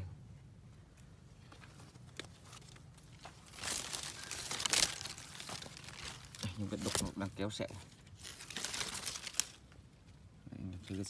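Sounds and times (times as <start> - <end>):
leaves rustling against microphone: 0.7 - 11.0.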